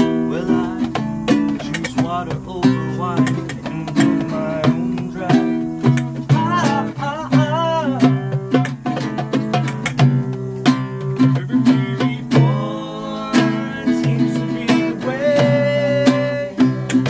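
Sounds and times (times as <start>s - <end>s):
man singing: 0.0s - 8.7s, 11.1s - 17.0s
acoustic guitar strumming: 0.0s - 17.0s.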